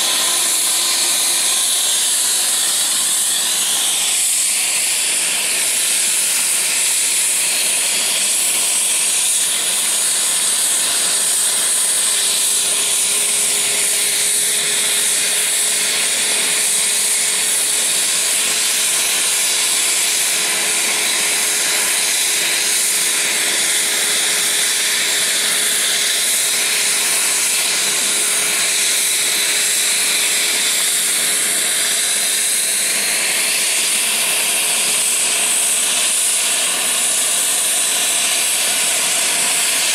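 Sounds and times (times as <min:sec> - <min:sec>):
helicopter engines running: 0:00.0 - 0:39.9.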